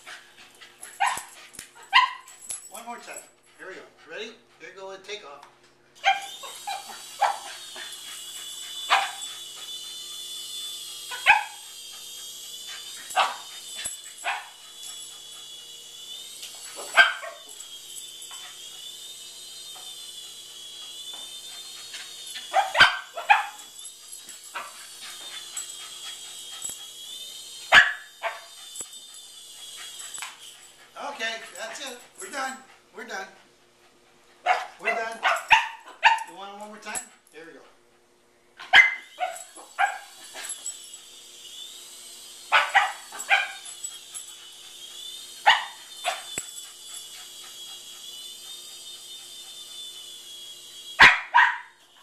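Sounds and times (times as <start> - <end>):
toy helicopter motor whine: 0.0 - 5.2, 6.0 - 37.7, 38.5 - 52.0.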